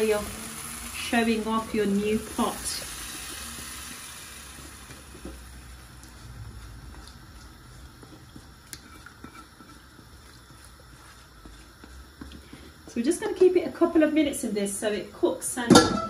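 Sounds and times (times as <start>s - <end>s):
curry sizzling in butter: 0.0s - 16.0s.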